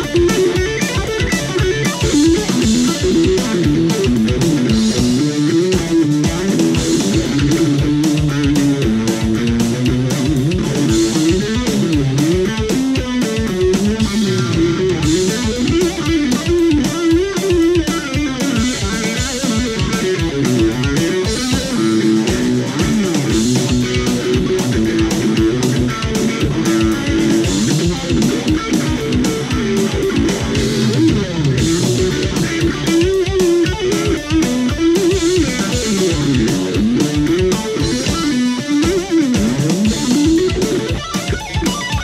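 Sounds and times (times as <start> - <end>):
electric guitar riffs: 0.0 - 42.0
steady beat: 0.0 - 42.0.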